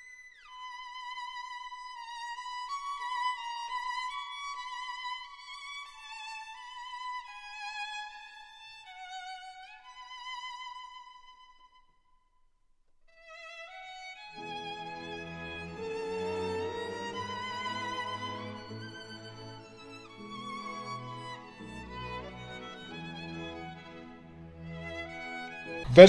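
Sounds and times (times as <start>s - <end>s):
solo violin melody: 0.0s - 11.8s, 13.1s - 26.0s.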